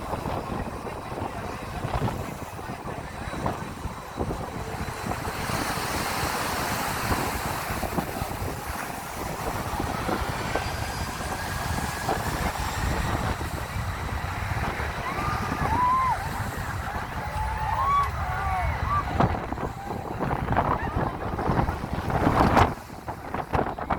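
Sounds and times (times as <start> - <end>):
jet engines roaring: 0.0 - 23.9.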